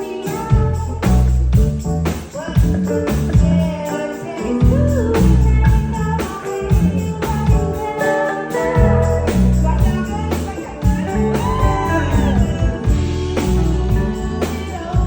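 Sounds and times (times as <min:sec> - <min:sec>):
steady drum beat: 0:00.0 - 0:08.0, 0:08.6 - 0:15.0
electric guitar: 0:00.0 - 0:15.0
heavy bass: 0:00.4 - 0:03.8, 0:04.6 - 0:07.8, 0:08.8 - 0:15.0.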